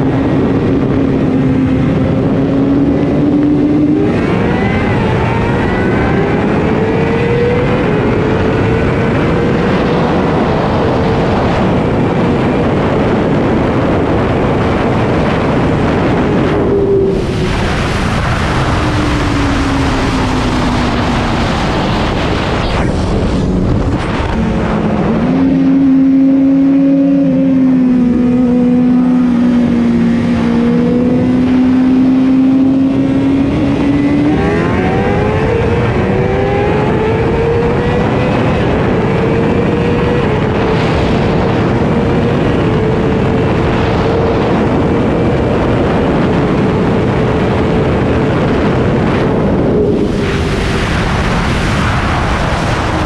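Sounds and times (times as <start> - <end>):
motorcycle engine: 0.0 - 53.0
wind rush: 0.0 - 53.0.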